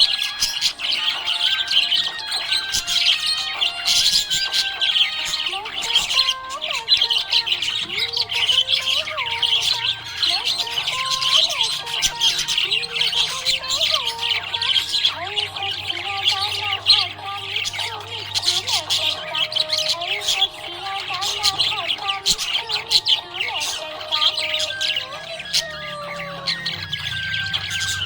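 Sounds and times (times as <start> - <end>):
budgerigars chirping and chattering: 0.0 - 28.0.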